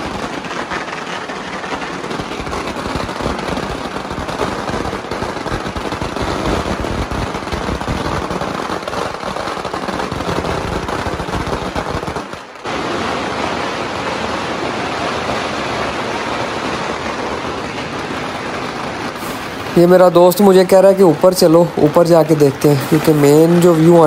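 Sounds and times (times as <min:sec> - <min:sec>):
firecrackers crackling: 0:00.0 - 0:24.0.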